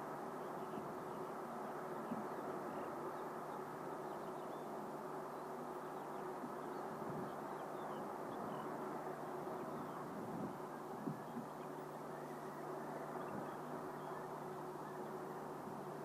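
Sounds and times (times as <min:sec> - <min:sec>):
faint bird chirps: 0:00.3 - 0:16.0.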